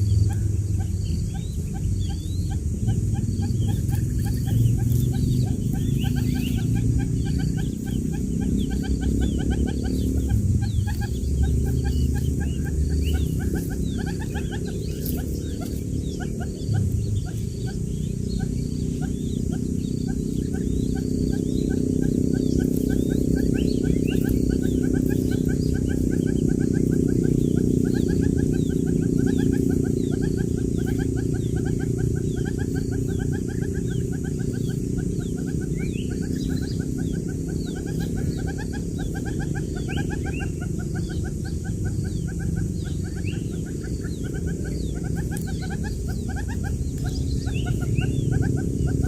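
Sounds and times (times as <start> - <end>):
quail chicks peeping: 0.0 - 49.0
steady low hum: 0.0 - 49.0.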